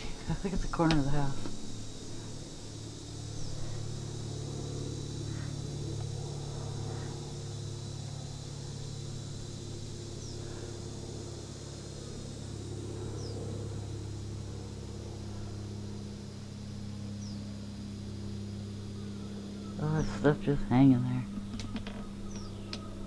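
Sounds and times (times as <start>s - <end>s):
high insect drone: 0.0s - 23.0s
steady low hum: 0.0s - 23.0s.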